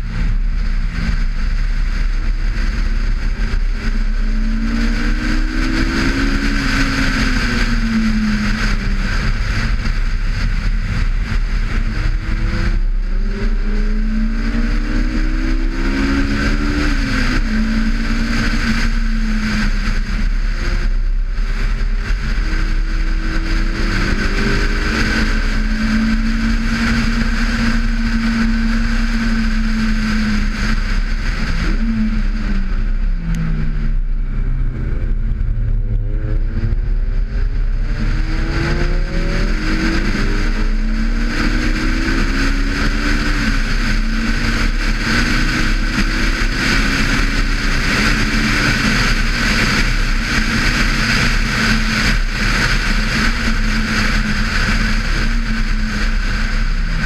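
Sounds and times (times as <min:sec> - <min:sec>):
car engine revving hard: 0:00.0 - 0:57.0
wind noise rushing: 0:00.0 - 0:57.0.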